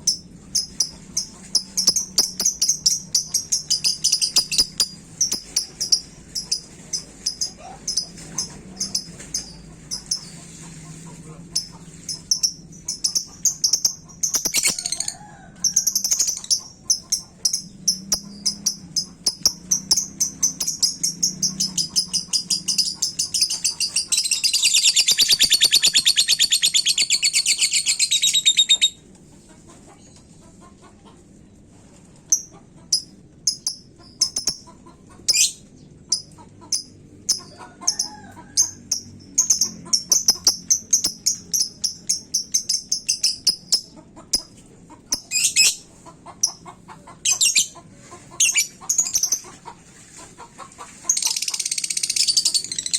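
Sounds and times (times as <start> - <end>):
lovebird chirping and trilling: 0.0 - 10.5, 11.6 - 29.0, 32.3 - 34.7, 35.3 - 44.4, 45.1 - 46.6, 47.2 - 47.8, 48.4 - 49.5, 51.1 - 52.9.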